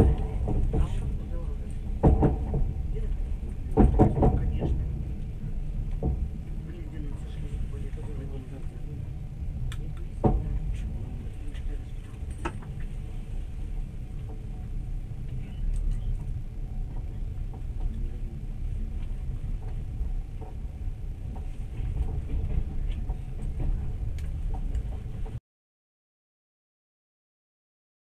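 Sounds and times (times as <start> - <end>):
train rumbling: 0.0 - 25.4.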